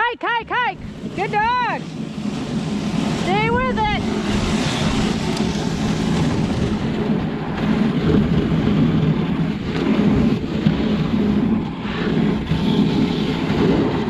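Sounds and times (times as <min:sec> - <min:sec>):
sled runners scraping snow: 0:00.3 - 0:14.0.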